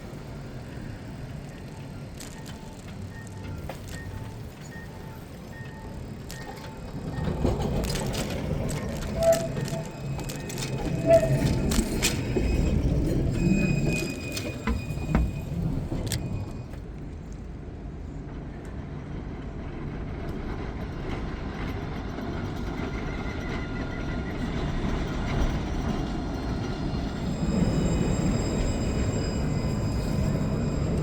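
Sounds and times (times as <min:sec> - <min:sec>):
tram rumbling on tracks: 0:00.0 - 0:31.0.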